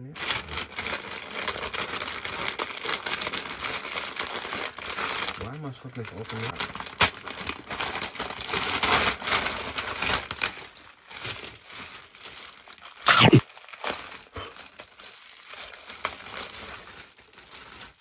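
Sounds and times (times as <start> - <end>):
wrapping paper crinkling and tearing: 0.1 - 18.0
plastic bag rustling: 0.6 - 5.4, 6.7 - 18.0.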